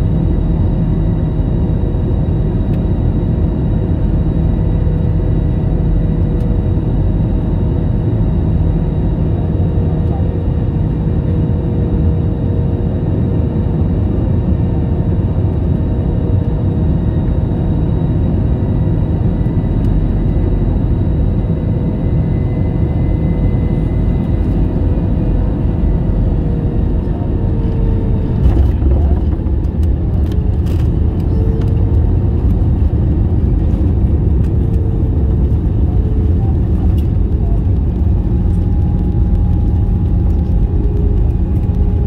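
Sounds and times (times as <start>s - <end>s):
airliner cabin engine rumble: 0.0s - 42.0s.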